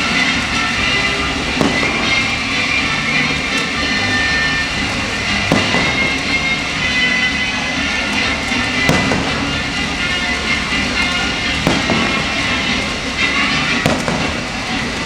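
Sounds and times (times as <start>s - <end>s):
fireworks rumbling crackle: 0.0s - 15.0s
fireworks sharp bangs: 0.0s - 15.0s.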